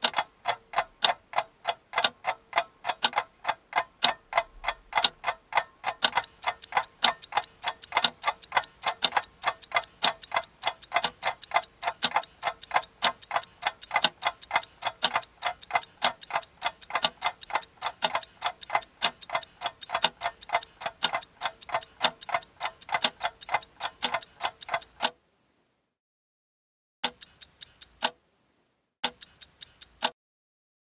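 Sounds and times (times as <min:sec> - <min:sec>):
mechanical clocks ticking: 0:00.0 - 0:25.2, 0:27.0 - 0:28.2, 0:29.0 - 0:30.2.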